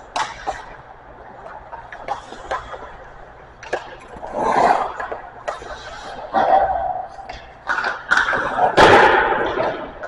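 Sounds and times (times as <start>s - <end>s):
hockey pucks and sticks knocking: 0.0s - 10.0s.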